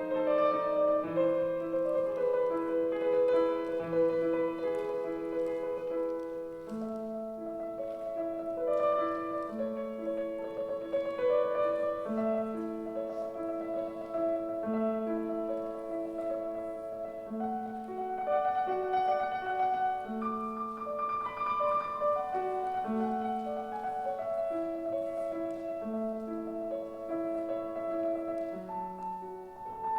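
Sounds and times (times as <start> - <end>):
slow calm piano piece: 0.0 - 29.9.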